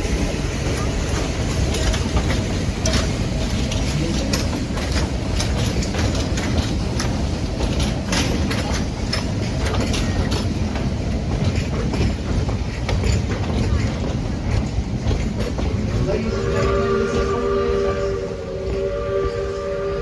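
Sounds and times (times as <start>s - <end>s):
wheels clicking and rattling: 0.0s - 17.3s
train rumbling on track: 0.0s - 20.0s.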